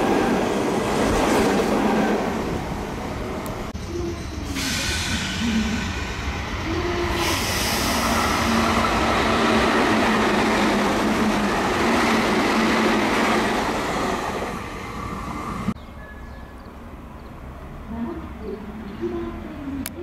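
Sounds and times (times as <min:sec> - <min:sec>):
electric train passing at speed: 0:00.0 - 0:19.9.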